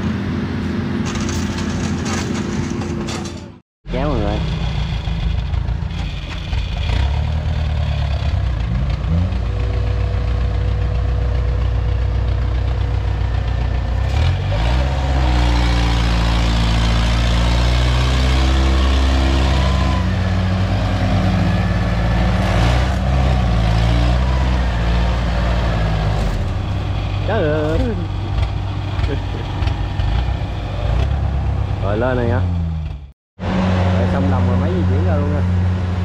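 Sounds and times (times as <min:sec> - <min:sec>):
farm machine engines revving: 0:00.0 - 0:36.0.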